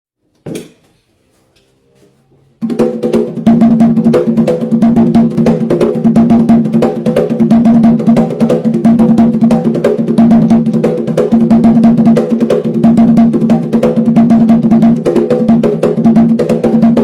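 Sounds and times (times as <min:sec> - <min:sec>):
hand drums playing fast rhythm: 0:02.6 - 0:17.0.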